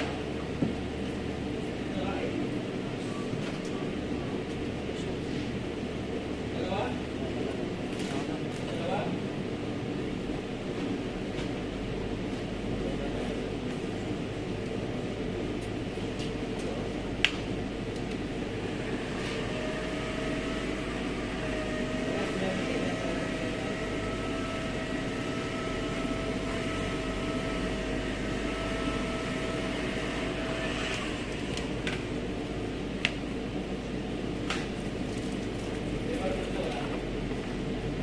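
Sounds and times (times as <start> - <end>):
machine hum with faint whine: 0.0 - 38.0.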